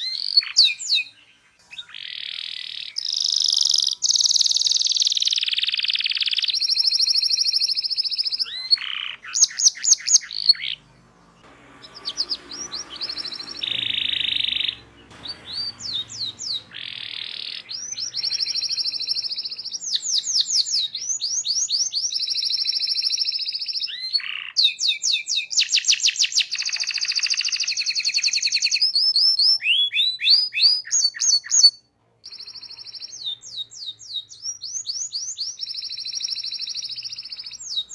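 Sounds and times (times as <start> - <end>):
canary singing: 0.0 - 37.9.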